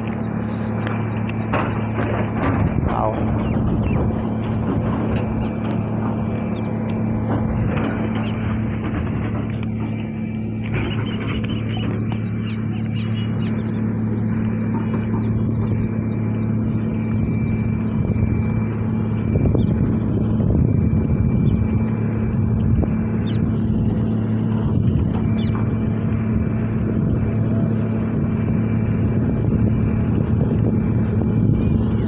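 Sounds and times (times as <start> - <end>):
engine humming steadily: 0.0 - 32.0.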